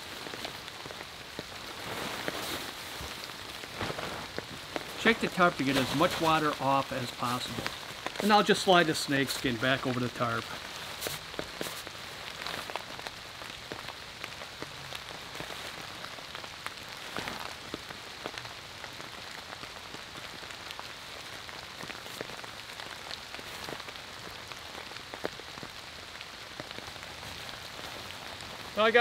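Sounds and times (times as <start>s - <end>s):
sharp raindrop sounds: 0.0s - 29.0s
steady rain falling: 0.0s - 29.0s.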